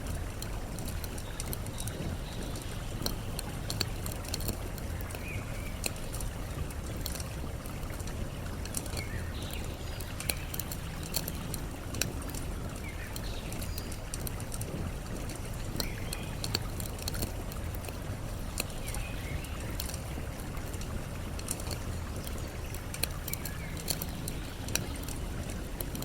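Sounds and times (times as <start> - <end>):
campfire crackling and popping: 0.0 - 26.0
flowing water rushing: 0.0 - 26.0.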